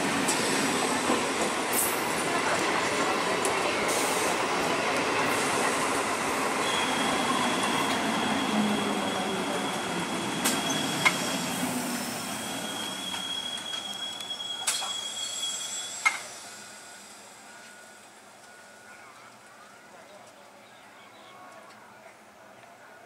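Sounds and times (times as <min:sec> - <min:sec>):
train wheels rumbling on rail: 0:00.0 - 0:19.6.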